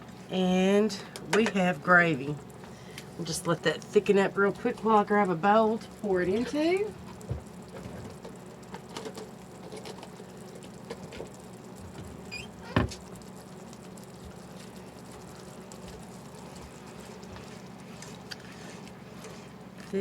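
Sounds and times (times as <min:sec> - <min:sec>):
steady low hum: 0:00.0 - 0:20.0
gravy bubbling in a pan: 0:01.6 - 0:20.0.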